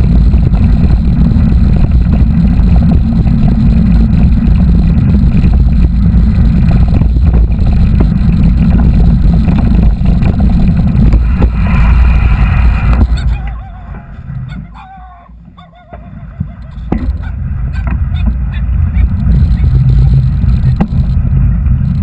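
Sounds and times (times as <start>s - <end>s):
bike riding noise: 0.0s - 22.0s
wind rumble: 0.0s - 22.0s.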